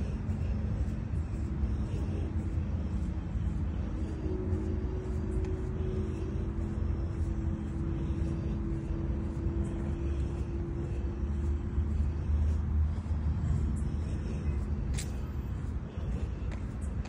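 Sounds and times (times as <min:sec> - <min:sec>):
distant road traffic rumble: 0:00.0 - 0:17.0
droning engine hum: 0:00.0 - 0:17.0.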